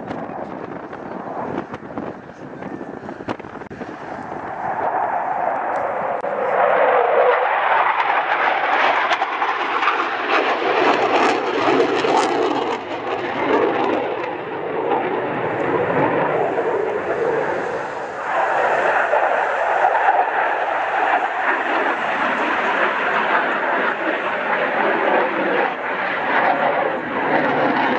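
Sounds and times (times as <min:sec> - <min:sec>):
jet roaring past: 0:00.0 - 0:27.9.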